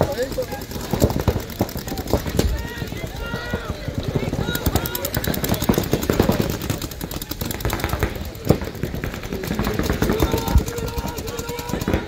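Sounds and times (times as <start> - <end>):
paintball markers firing: 0.0 - 12.0
sharp crack: 0.0 - 12.0.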